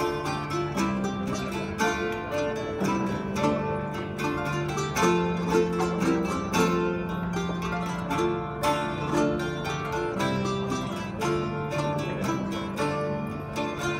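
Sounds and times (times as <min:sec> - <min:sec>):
harp playing: 0:00.0 - 0:13.9
low held notes: 0:00.0 - 0:13.9
lutes playing quick tune: 0:00.0 - 0:13.9.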